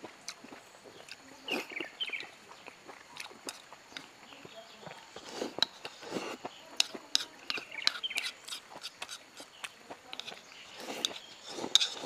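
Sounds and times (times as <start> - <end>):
chewing: 0.0 - 12.0
slurping: 0.0 - 12.0.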